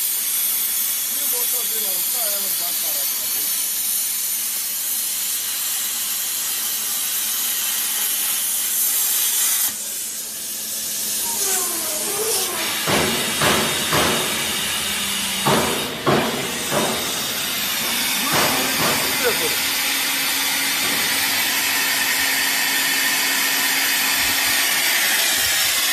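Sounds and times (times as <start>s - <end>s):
plasma torch arc hissing: 0.0s - 25.9s.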